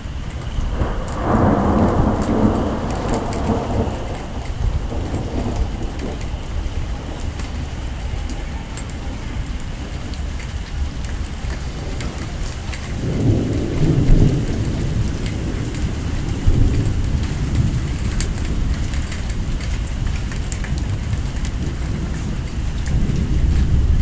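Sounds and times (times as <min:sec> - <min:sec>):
heavy rain: 0:00.0 - 0:24.0
thunder rumbling: 0:00.0 - 0:24.0.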